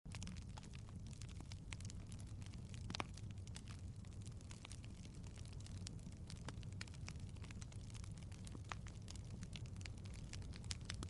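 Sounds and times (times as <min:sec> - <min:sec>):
fire crackling: 0:00.1 - 0:11.0
low steady rumble: 0:00.1 - 0:11.0.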